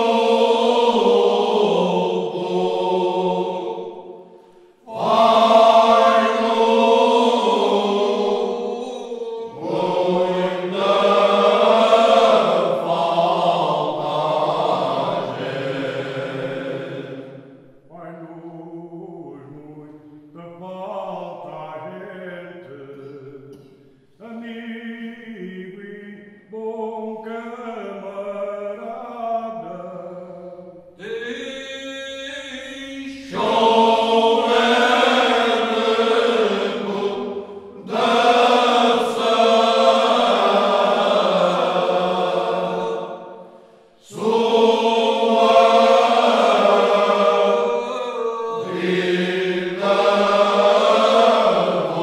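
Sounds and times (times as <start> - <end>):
men's choir singing a cappella: 0.0 - 52.0.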